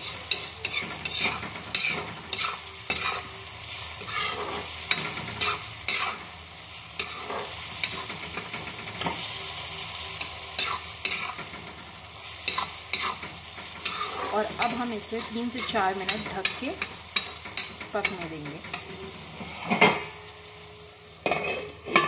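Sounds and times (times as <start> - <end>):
metal spoon scraping a pan: 0.0 - 6.4, 7.0 - 9.4, 10.2 - 20.3, 21.2 - 22.0
sizzle of frying in oil: 0.0 - 22.0.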